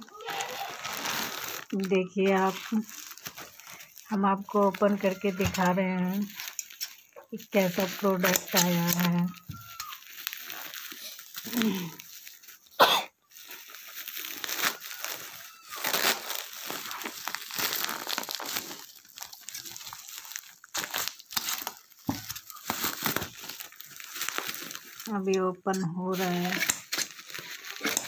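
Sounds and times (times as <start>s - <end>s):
loud sharp crackle: 0.0s - 25.3s, 26.2s - 28.0s
plastic packaging crinkling: 0.0s - 28.0s.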